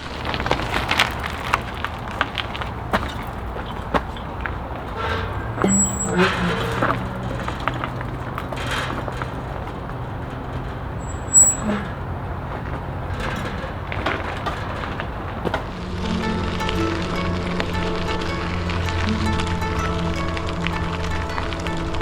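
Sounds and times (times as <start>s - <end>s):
bicycle rolling on trail: 0.0s - 22.0s.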